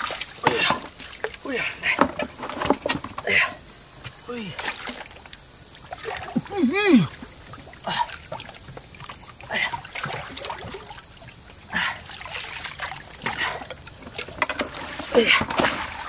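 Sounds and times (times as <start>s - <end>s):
water trickling: 0.0s - 2.0s, 4.2s - 16.0s.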